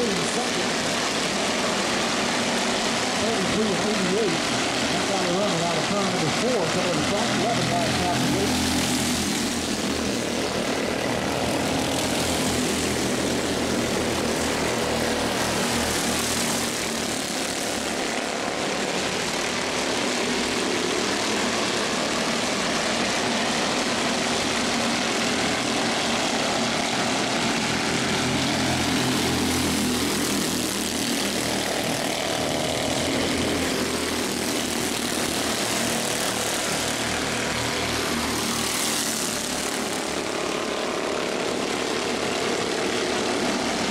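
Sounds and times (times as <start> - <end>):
race car engines droning: 0.0 - 43.9.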